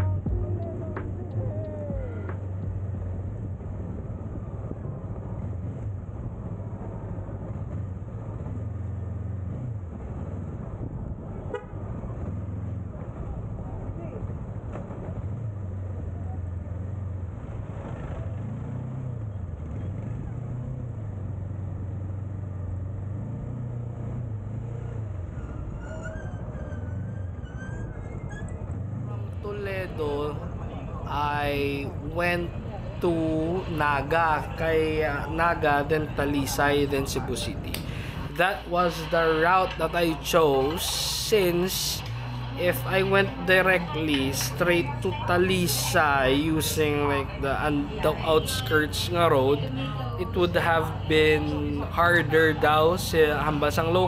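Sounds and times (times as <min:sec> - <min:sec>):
motorcycle engine droning: 0:00.0 - 0:54.0
road and wind noise: 0:00.0 - 0:54.0.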